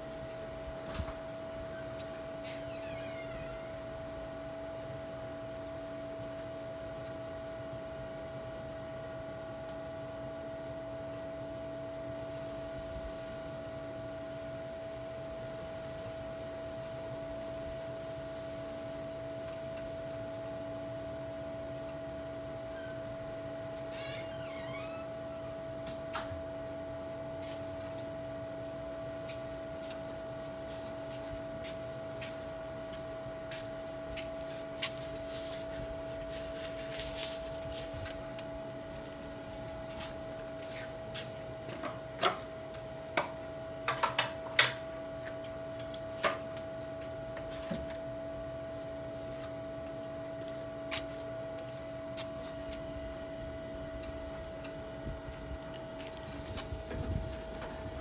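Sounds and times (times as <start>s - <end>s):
grill motor hum: 0.0s - 58.0s.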